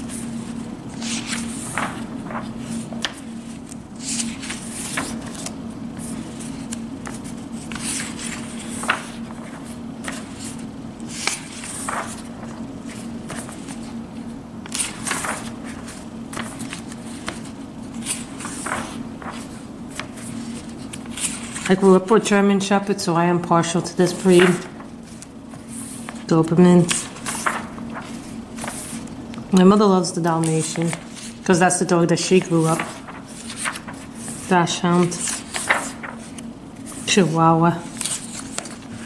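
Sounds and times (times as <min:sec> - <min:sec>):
paper pages turning: 0:00.0 - 0:22.4, 0:23.2 - 0:29.2, 0:30.4 - 0:31.5, 0:32.1 - 0:39.0
steady low hum: 0:00.0 - 0:39.0.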